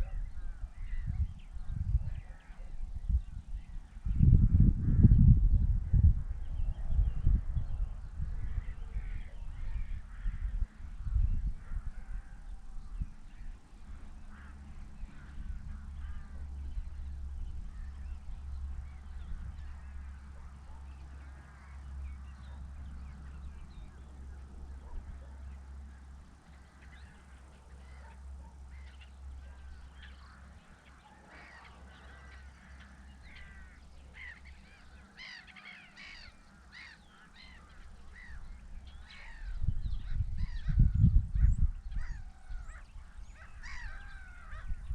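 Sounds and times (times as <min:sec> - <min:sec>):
birds calling: 0:00.0 - 0:44.9.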